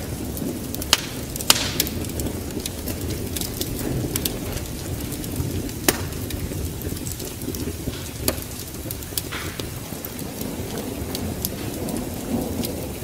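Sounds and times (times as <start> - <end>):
sharp fire pops: 0.0 - 13.0
wood fire crackling: 0.0 - 13.0.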